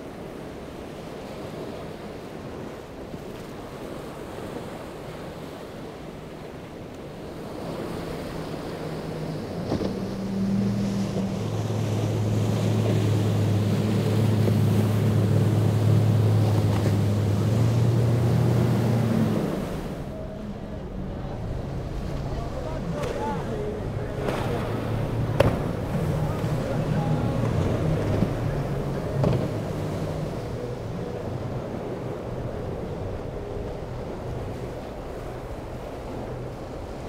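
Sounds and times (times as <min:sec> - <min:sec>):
boat outboard engines droning: 0:00.0 - 0:37.0
waves breaking: 0:00.0 - 0:37.0
wind: 0:00.0 - 0:37.0.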